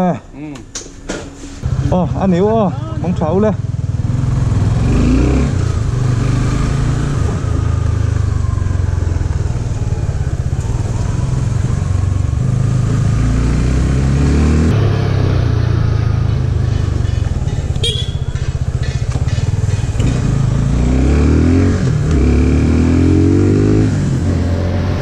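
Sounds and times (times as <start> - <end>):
motorcycle engine riding off: 1.7 - 25.0.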